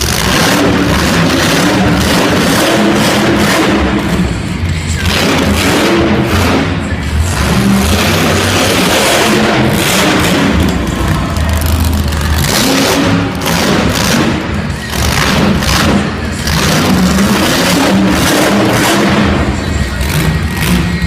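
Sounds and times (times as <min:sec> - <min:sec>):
monster truck engine revving: 0:00.0 - 0:21.0.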